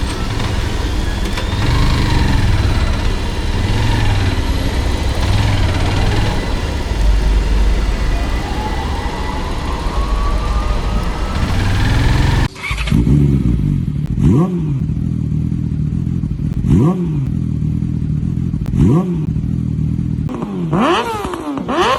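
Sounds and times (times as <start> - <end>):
motorcycle engine accelerating: 0.0 - 21.9
motorcycle throttle revving: 0.0 - 21.9.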